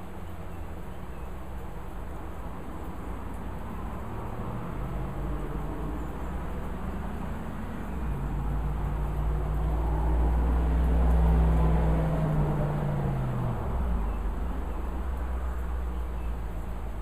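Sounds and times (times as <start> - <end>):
steady rain hiss: 0.0 - 17.0
vehicle passing: 1.5 - 17.0.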